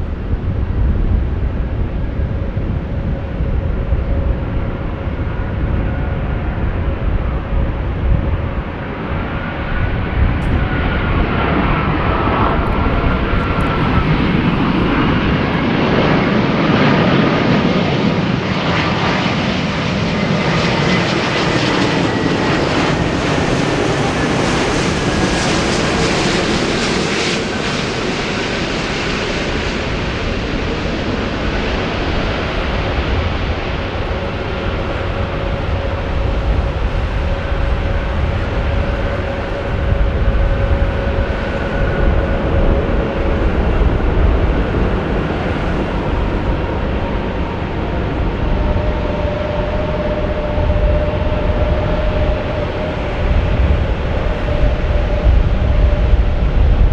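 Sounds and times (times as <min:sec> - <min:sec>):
jet aircraft engines passing: 0:00.0 - 0:56.9.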